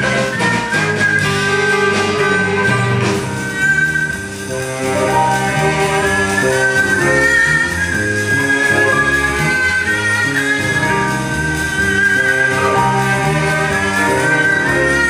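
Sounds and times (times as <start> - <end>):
live band accompaniment: 0.0 - 15.0
bowed fiddle melody: 0.4 - 15.0.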